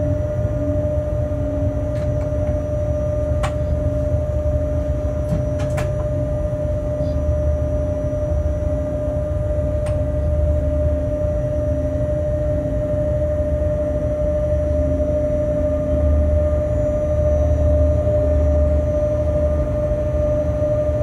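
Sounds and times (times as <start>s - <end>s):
mid-pitched hum: 0.0s - 21.0s.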